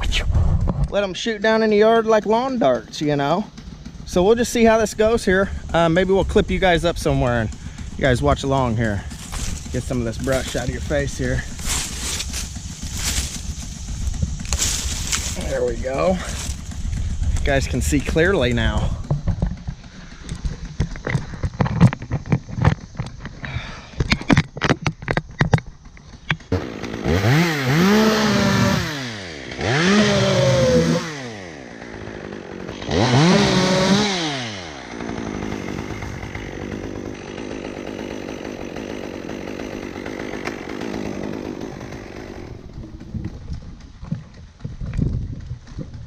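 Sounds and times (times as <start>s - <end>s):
chainsaw revving: 1.6s - 23.7s, 25.8s - 44.7s.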